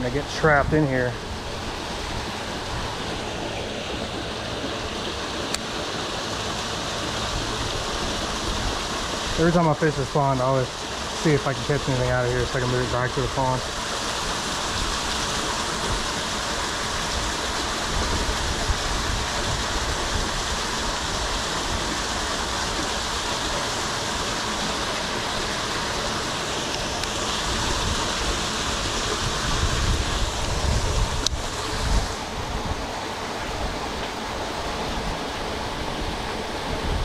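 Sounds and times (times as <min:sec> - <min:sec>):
water rushing into drain: 0:00.0 - 0:37.0.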